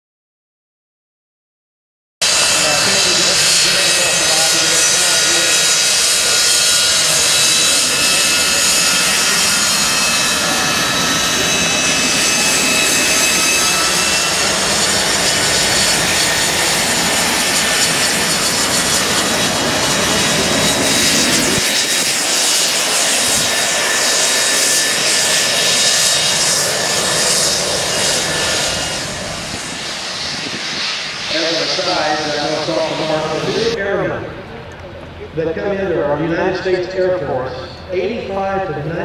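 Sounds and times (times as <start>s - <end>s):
high turbine whine: 2.2s - 39.0s
jet engines running: 2.2s - 39.0s.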